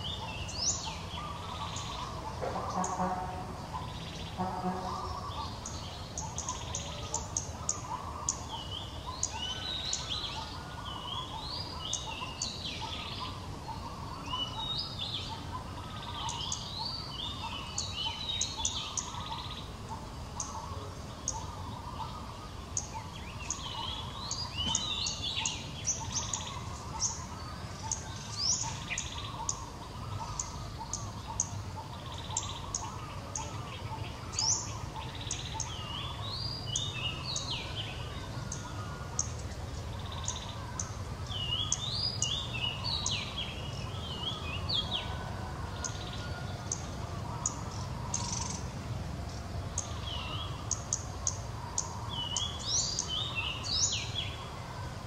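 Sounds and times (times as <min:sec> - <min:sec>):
birds chirping and calling: 0:00.0 - 0:55.0
low outdoor rumble: 0:00.0 - 0:55.0.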